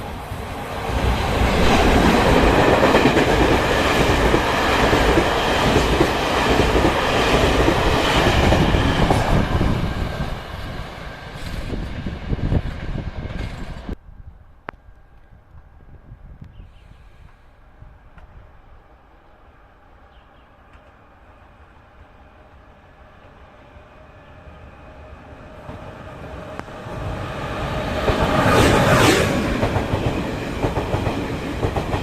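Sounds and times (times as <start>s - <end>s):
train passing on track: 0.0s - 32.0s.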